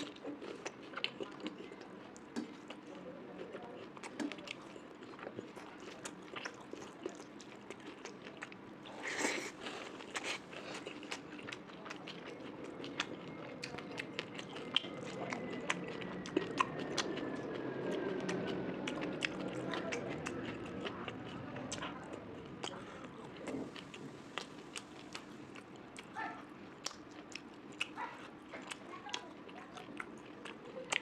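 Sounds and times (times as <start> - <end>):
close chewing and biting: 0.0 - 31.0.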